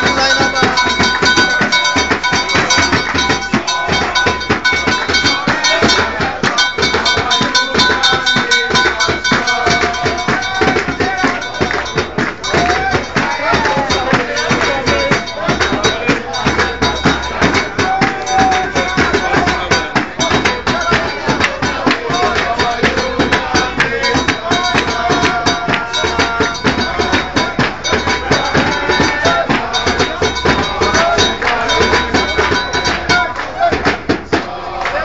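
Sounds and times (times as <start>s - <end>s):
cowbell-like metal strikes: 0.0s - 34.2s
crowd shouting: 0.0s - 35.0s.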